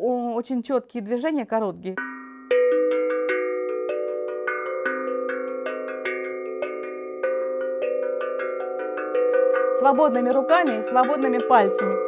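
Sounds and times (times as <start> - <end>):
steel tongue drum notes: 2.0 - 12.0.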